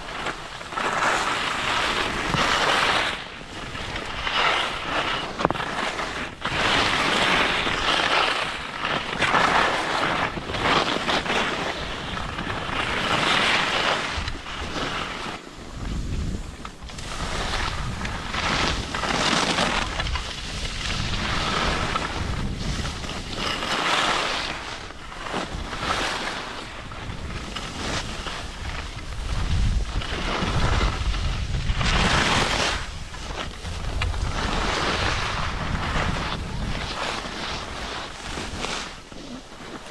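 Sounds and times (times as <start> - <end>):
skis scraping on snow: 0.0 - 39.9
wind rumble on microphone: 0.0 - 39.9.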